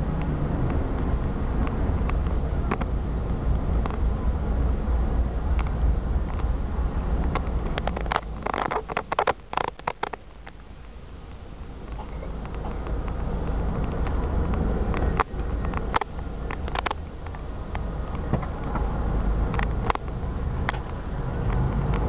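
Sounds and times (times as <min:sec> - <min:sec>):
car engine and tyre rumble: 0:00.0 - 0:22.0
sharp clicks and knocks: 0:00.2 - 0:04.1, 0:07.2 - 0:22.0.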